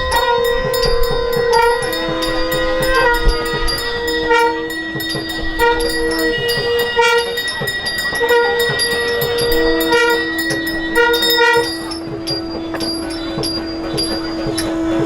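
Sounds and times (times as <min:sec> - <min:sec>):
hand cymbals clicking: 0:00.0 - 0:15.0
long held pitched notes: 0:00.0 - 0:15.0.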